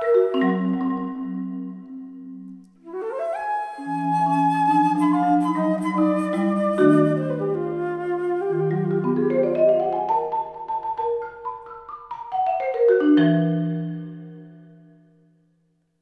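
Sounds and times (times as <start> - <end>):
marimba playing: 0.0 - 2.6, 3.9 - 15.1.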